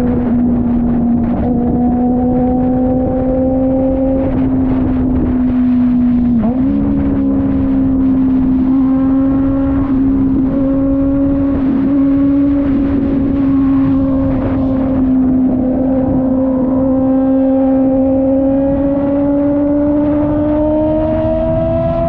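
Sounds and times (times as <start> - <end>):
motorcycle engine cruising: 0.0 - 22.0
wind and road rush: 0.0 - 22.0.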